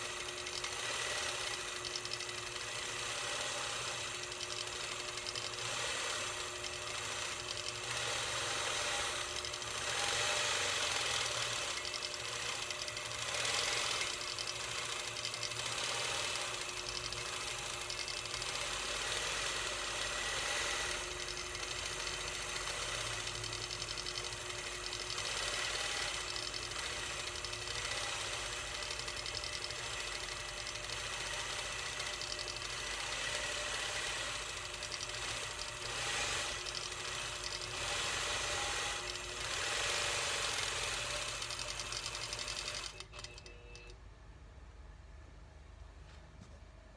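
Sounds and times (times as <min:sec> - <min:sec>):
quilting machine stitching: 0:00.0 - 0:43.4.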